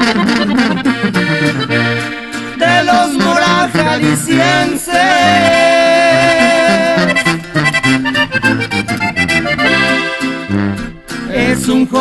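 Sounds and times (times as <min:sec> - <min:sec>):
accordion playing: 0:00.0 - 0:12.0
tuba bass line: 0:00.0 - 0:12.0.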